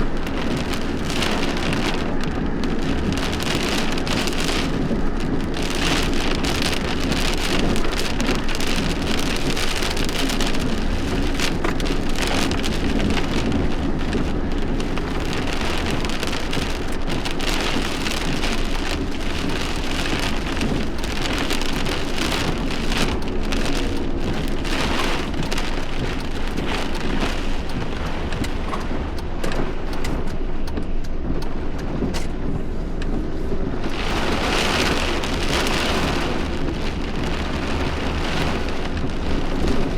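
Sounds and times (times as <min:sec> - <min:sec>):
constant low rumble: 0:00.0 - 0:39.9
heavy rain falling: 0:00.0 - 0:39.9
raindrops striking close by: 0:00.0 - 0:39.9.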